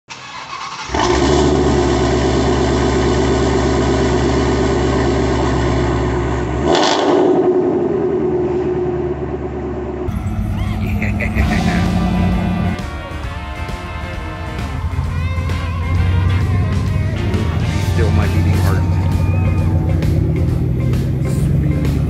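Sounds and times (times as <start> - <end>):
vehicle engine starting and running: 0.1 - 22.0.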